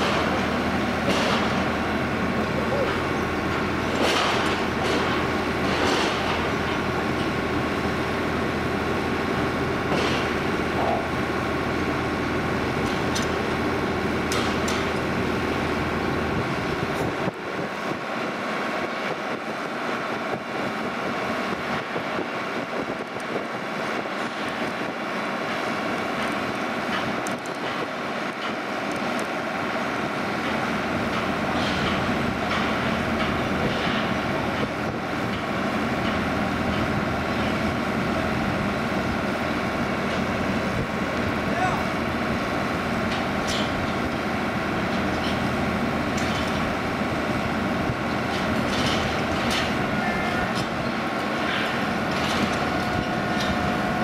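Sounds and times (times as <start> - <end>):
crane mechanical hum and whine: 0.0 - 54.0.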